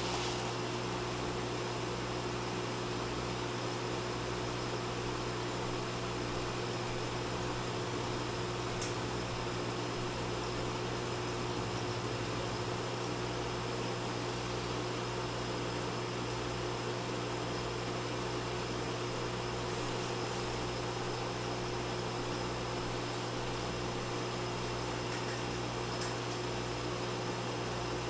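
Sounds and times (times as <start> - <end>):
aquarium pumps humming and hissing: 0.0 - 28.0.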